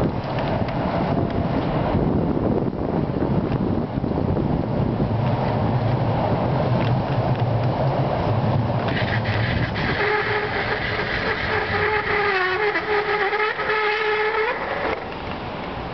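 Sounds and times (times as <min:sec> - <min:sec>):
low rumble of street traffic: 0:00.0 - 0:15.9
tram electric whine: 0:00.0 - 0:15.9.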